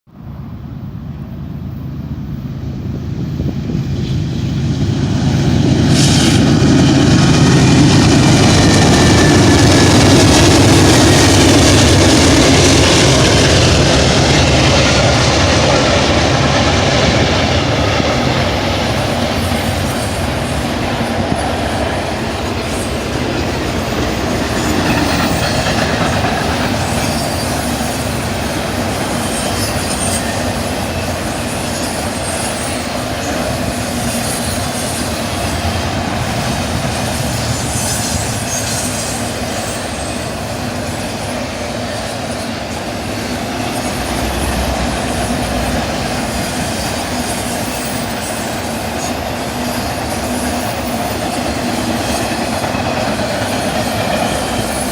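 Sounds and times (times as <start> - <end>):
freight train wheels rumbling: 0.1 - 54.9
wheels clickety-clack on rail: 2.8 - 54.9
train wheel squeal: 3.4 - 54.9.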